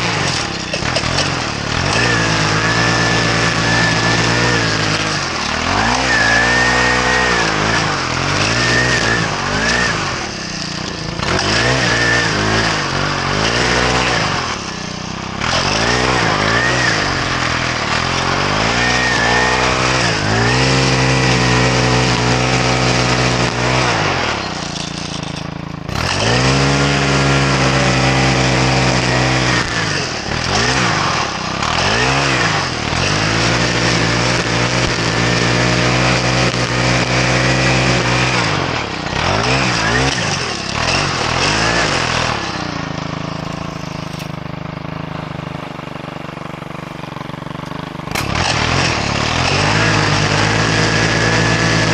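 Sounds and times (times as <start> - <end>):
small petrol engine running: 0.0 - 51.9.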